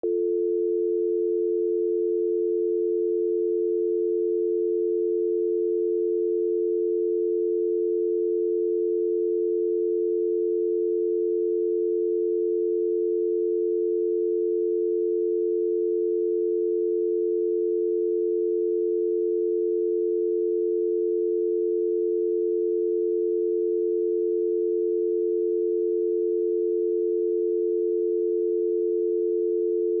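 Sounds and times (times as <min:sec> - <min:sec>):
telephone dial tone: 0:00.0 - 0:30.0.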